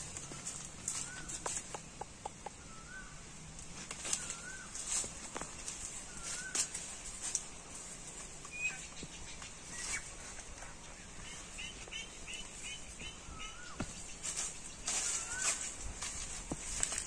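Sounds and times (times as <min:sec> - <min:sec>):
feet crackling on dry leaves: 0:00.0 - 0:01.7, 0:03.6 - 0:10.6, 0:11.3 - 0:17.0.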